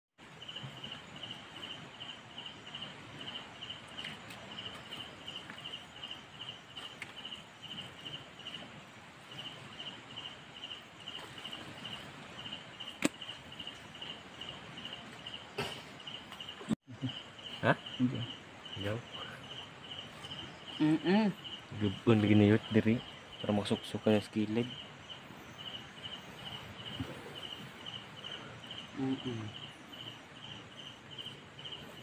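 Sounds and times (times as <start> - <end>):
insect chirping in high pulses: 0.2 - 32.0.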